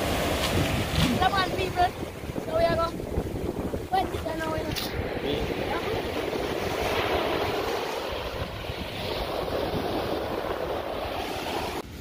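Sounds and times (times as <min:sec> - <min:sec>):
sea surf breaking: 0:00.0 - 0:12.0
wind buffeting microphone: 0:00.0 - 0:12.0.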